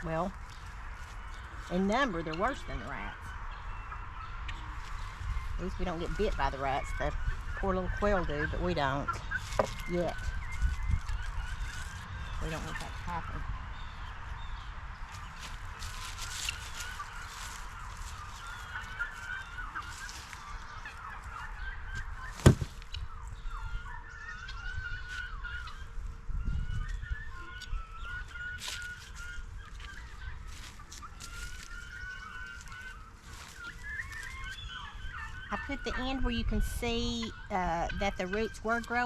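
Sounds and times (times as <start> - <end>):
poultry calling: 0.0 - 39.0.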